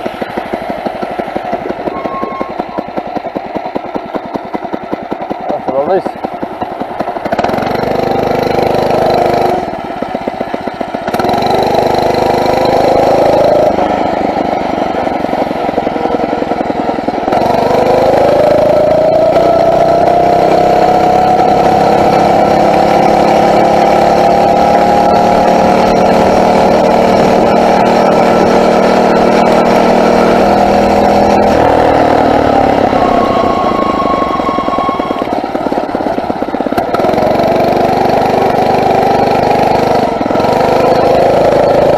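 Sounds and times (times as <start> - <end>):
small four-stroke engine running: 0.0 - 41.9.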